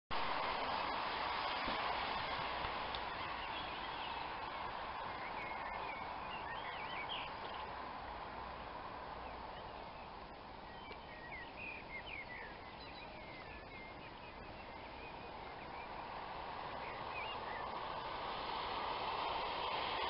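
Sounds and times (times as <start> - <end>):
steady outdoor hiss: 0.1 - 20.0
car tyres hissing on wet road: 0.2 - 12.6, 14.8 - 20.0
songbirds chirping: 0.2 - 20.0.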